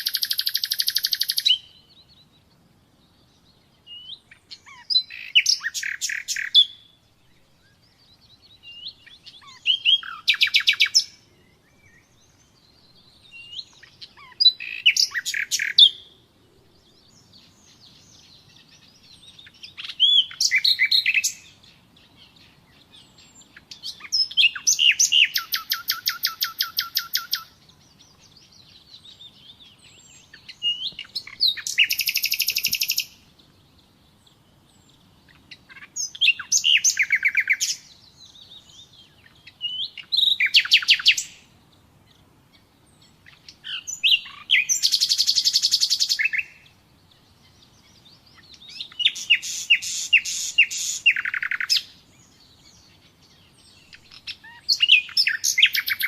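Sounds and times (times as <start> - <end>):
nightingale singing trills: 0.0 - 56.0.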